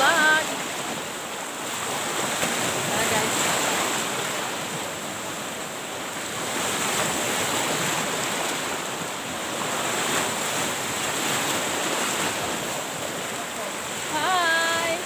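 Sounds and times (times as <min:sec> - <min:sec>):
sea surf rushing: 0:00.0 - 0:15.0.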